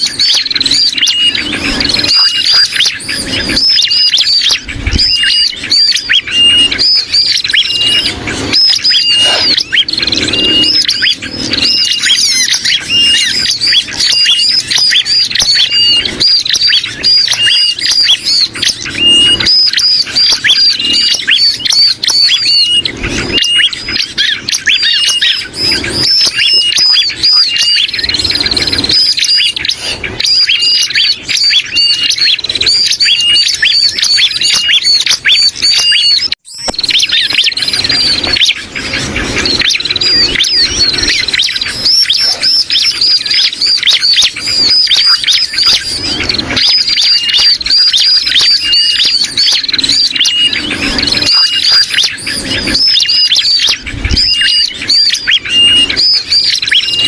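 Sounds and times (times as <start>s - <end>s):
agitated bulbul calls: 0.0s - 57.0s
prinia calls: 0.0s - 57.0s.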